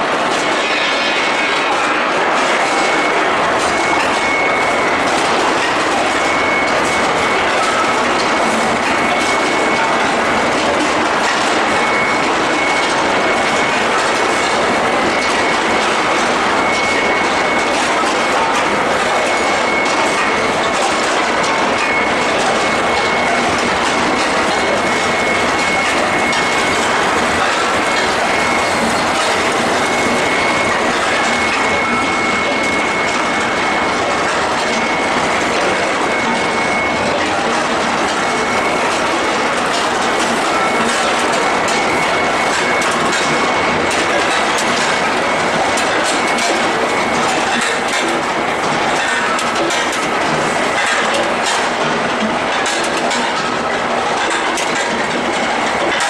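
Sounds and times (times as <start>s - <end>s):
loud machinery noise: 0.0s - 56.0s
loud steady mechanical din: 0.0s - 56.0s.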